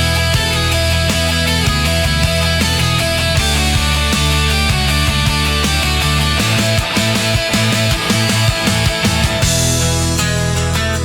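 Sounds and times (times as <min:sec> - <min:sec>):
heavy rock band: 0:00.0 - 0:11.0
held bass line: 0:00.0 - 0:11.0
steady drum beat: 0:00.0 - 0:11.0.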